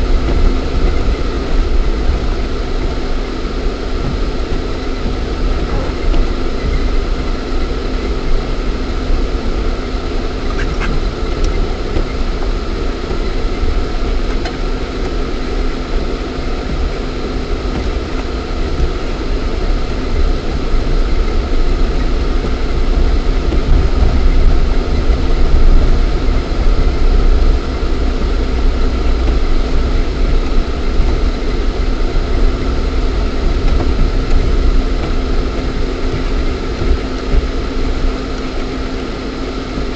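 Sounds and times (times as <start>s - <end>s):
car engine running inside cabin: 0.0s - 39.9s.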